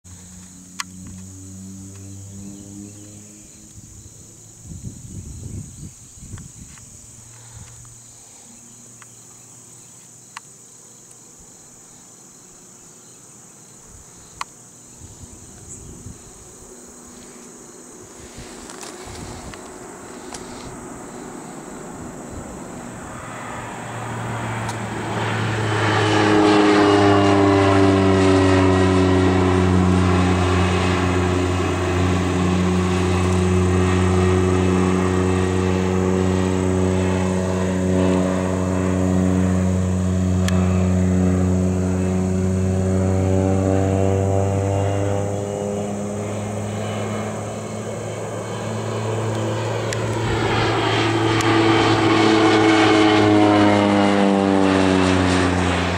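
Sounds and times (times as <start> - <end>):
propeller plane engine droning: 0.0 - 55.9.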